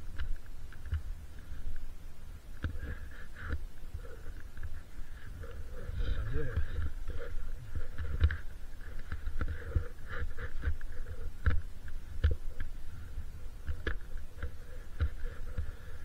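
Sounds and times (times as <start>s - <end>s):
low microphone rumble: 0.0s - 16.0s.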